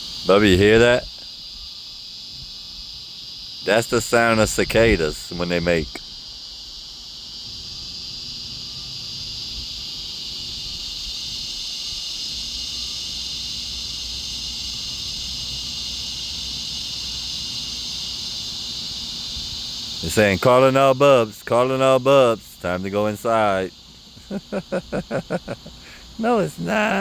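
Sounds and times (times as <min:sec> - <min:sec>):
cicadas chorus: 0:00.0 - 0:27.0.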